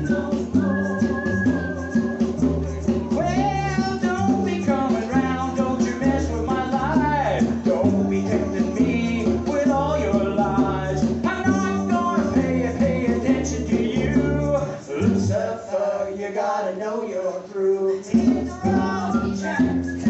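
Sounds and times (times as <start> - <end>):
shaker: 0.0 - 15.8, 17.8 - 20.0
gospel band music: 0.0 - 20.0
person singing with vibrato: 0.0 - 20.0.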